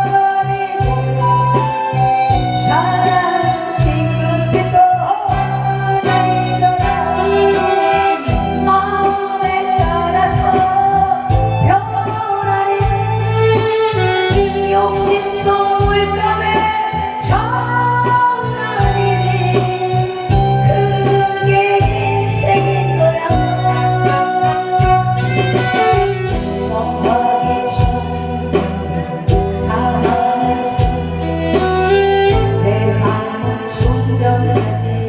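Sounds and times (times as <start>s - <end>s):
person singing: 0.0s - 35.0s
amplified trot song with bass beat: 0.8s - 35.0s.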